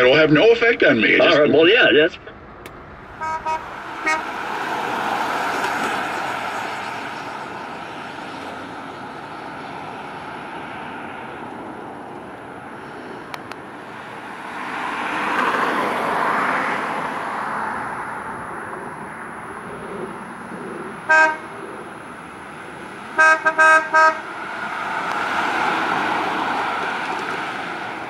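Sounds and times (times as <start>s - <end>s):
car driving past: 1.0s - 19.1s, 20.0s - 28.0s.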